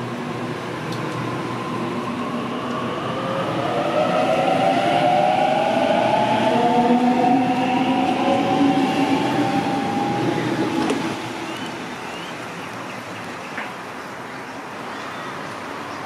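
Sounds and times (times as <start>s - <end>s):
station background noise: 0.0s - 14.0s.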